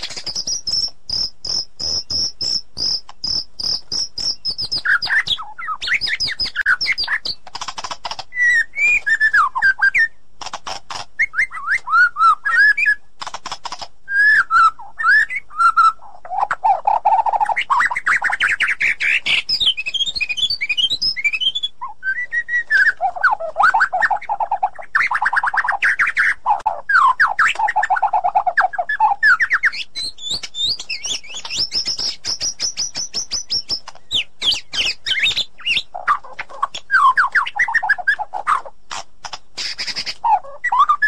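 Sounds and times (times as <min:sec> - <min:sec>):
bird singing whistles and trills: 0:00.0 - 0:07.4, 0:08.3 - 0:10.2, 0:11.2 - 0:13.1, 0:14.1 - 0:38.7, 0:39.6 - 0:41.0.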